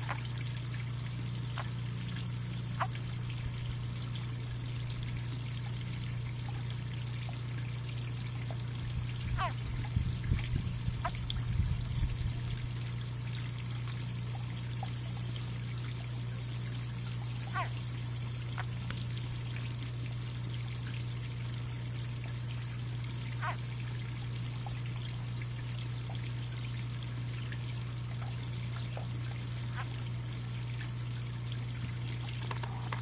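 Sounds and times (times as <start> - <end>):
water trickling: 0.0 - 33.0.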